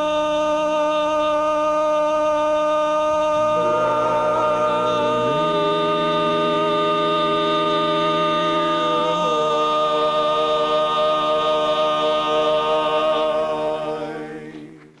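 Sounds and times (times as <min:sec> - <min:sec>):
men singing a cappella: 0:00.0 - 0:15.0.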